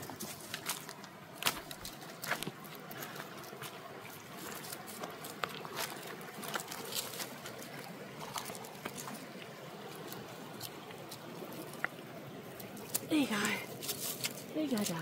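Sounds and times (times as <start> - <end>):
faint steady hiss: 0.0 - 15.0
footsteps crunching on stones: 0.0 - 15.0.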